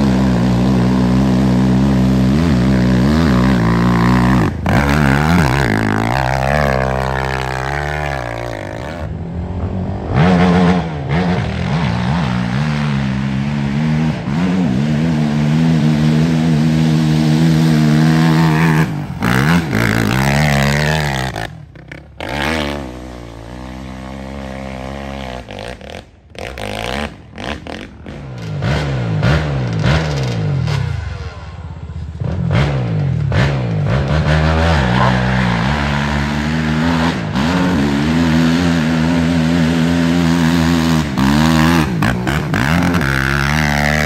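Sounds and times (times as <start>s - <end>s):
atv engines revving: 0.0s - 44.0s.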